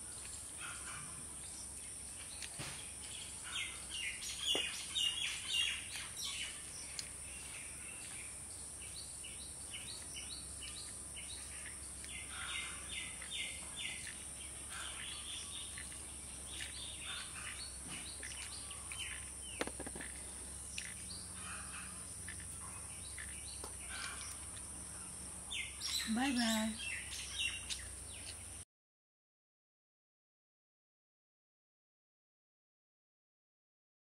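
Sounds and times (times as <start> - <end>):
small birds chirping: 0.0 - 28.6.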